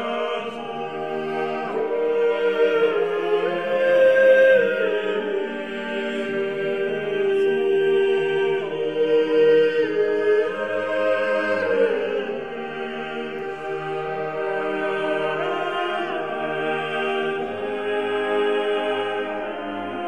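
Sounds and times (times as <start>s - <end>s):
slow music with long held notes: 0.0s - 20.0s.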